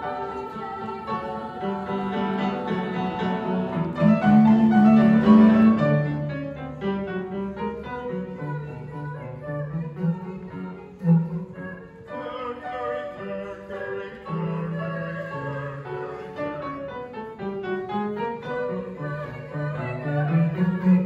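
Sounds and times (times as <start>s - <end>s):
choir singing: 0.0s - 21.0s
piano: 0.0s - 21.0s.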